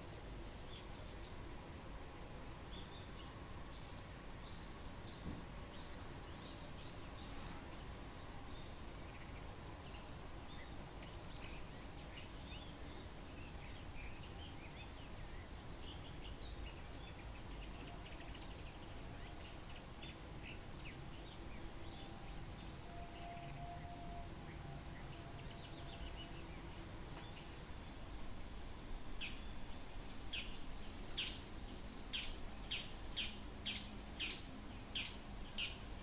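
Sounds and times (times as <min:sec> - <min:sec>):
low background noise: 0:00.0 - 0:36.0.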